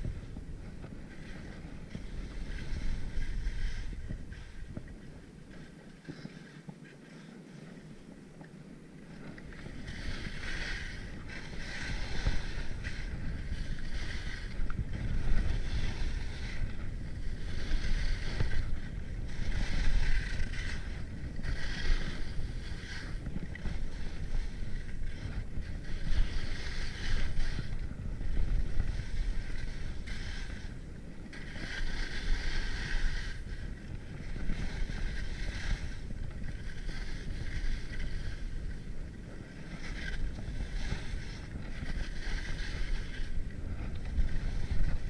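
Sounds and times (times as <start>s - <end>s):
skis scraping swish on snow: 0.0s - 45.0s
wind rumbling on microphone: 0.0s - 45.0s.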